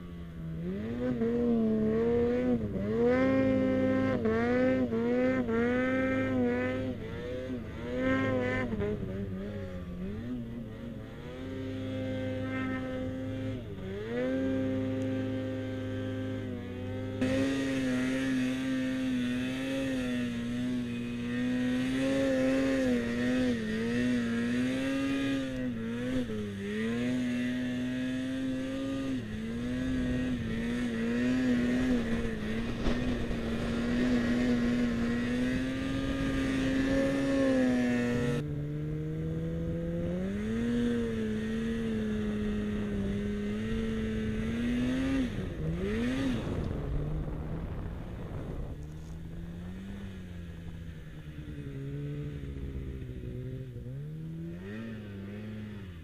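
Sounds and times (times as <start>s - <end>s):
snowmobile engine at high revs: 0.0s - 56.0s.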